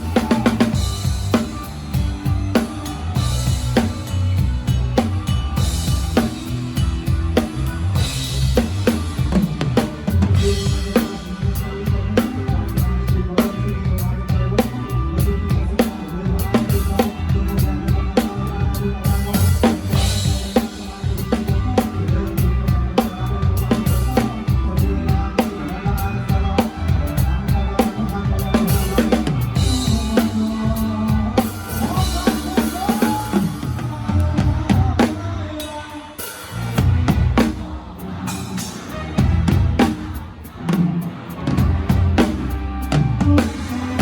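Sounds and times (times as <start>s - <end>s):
live band music: 0.0s - 44.0s.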